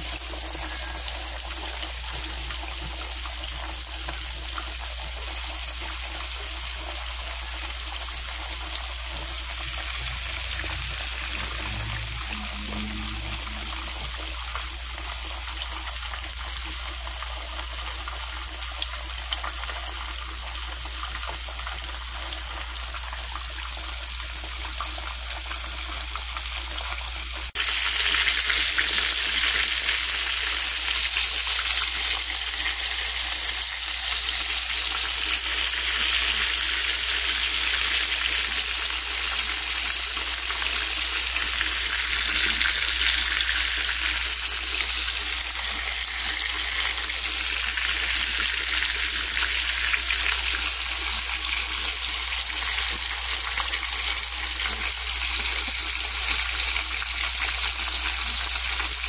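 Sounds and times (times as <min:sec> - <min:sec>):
meat frying in hot oil: 0:00.0 - 0:59.0.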